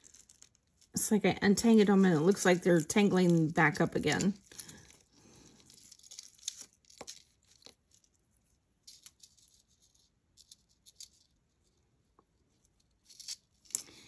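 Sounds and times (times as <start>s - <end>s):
jewelry beads and chain clicking: 0.0s - 1.0s, 1.6s - 8.2s, 8.8s - 11.7s, 12.7s - 14.0s.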